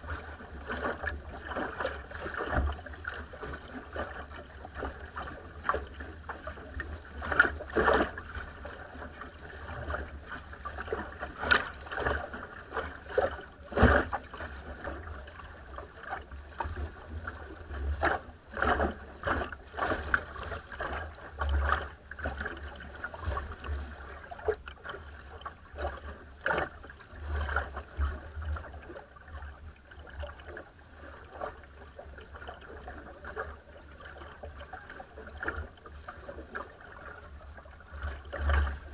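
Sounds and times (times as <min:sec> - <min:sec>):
water rushing against boat hull: 0:00.0 - 0:38.9
water splashes: 0:00.0 - 0:38.9.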